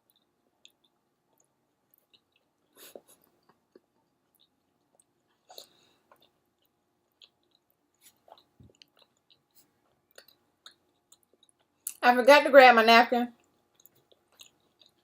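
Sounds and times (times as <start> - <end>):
person chewing: 0.0 - 12.0, 13.4 - 15.0.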